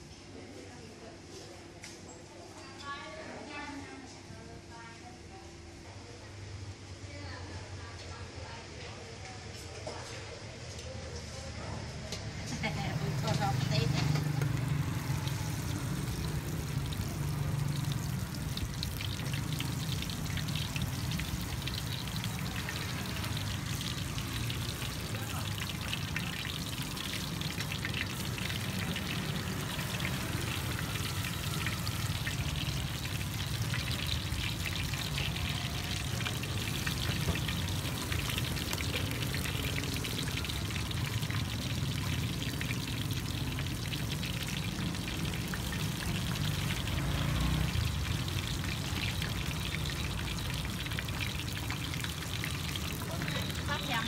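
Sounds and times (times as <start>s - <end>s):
deep-frying sizzle with crackles: 6.7s - 54.0s.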